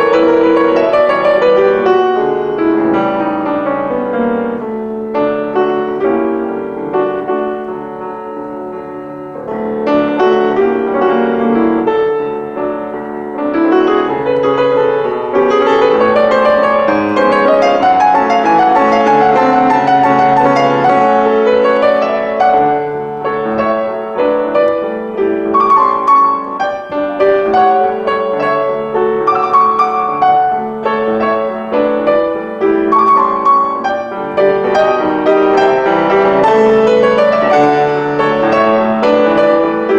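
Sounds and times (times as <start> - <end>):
piano piece: 0.0 - 39.9.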